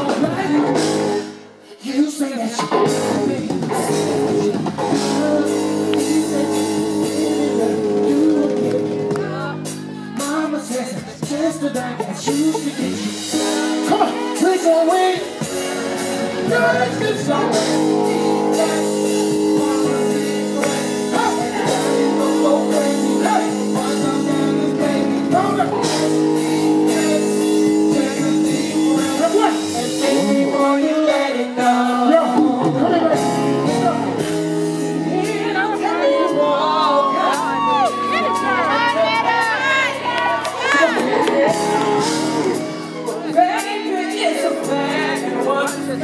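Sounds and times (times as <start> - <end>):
bass guitar: 0.0 - 1.6, 2.6 - 46.0
live band playing: 0.0 - 46.0
person singing: 0.0 - 46.0.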